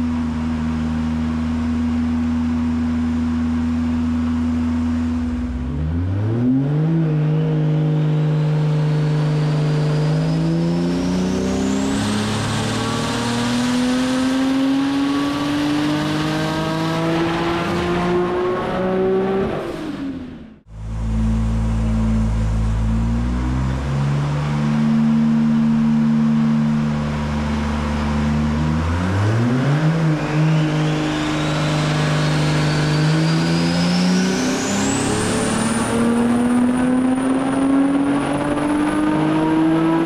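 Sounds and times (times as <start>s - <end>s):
high whine: 0.0s - 40.0s
race car engine revving under load: 5.4s - 40.0s.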